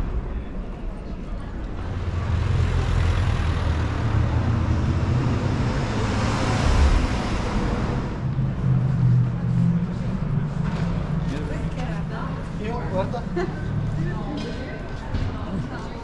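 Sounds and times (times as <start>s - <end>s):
vehicle driving past: 1.6s - 15.0s.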